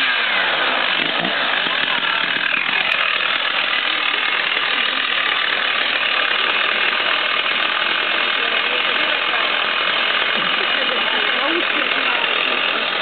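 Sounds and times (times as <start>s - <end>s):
chainsaw engine idling: 0.0s - 13.0s.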